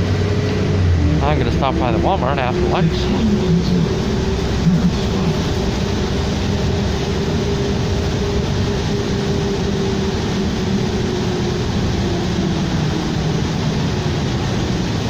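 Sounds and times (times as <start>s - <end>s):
bus engine rumble from inside: 0.0s - 15.0s.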